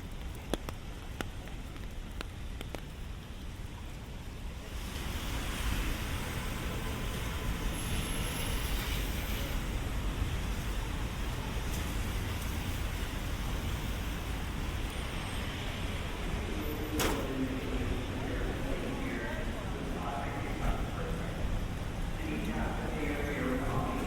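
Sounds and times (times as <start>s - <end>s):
low rumble of vehicles: 0.0s - 24.0s
tyres hissing on wet road: 2.3s - 24.0s.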